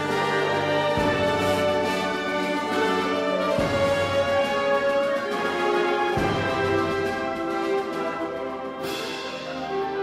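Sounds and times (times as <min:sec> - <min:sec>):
wind band playing chords: 0:00.0 - 0:10.0.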